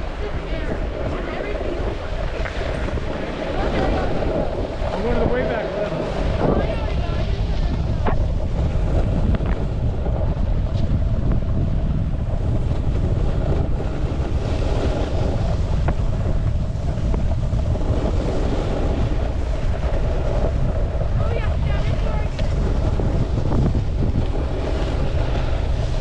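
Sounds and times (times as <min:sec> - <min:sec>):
snowboard scraping over snow: 0:00.0 - 0:26.0
wind rumbling on microphone: 0:00.0 - 0:26.0.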